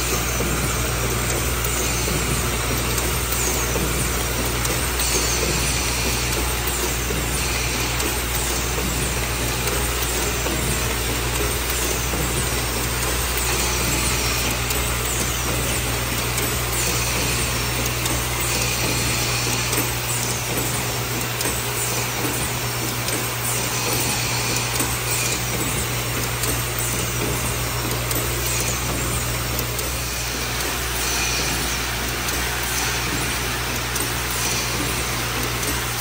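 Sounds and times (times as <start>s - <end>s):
machine humming: 0.0s - 36.0s
mechanical clatter: 0.0s - 36.0s.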